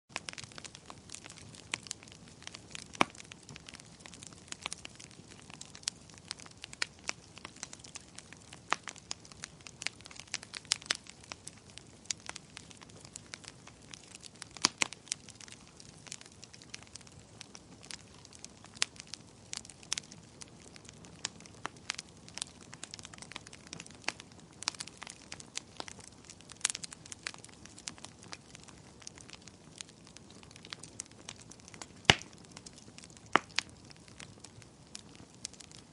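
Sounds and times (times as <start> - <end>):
wood fire crackling and popping: 0.1 - 35.9.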